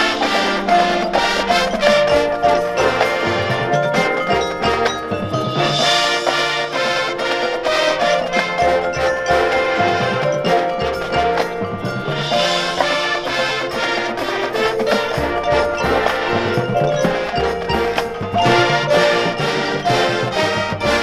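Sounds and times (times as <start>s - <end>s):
brass chords: 0.0s - 21.0s
drums: 0.0s - 21.0s
mallet percussion: 0.0s - 21.0s.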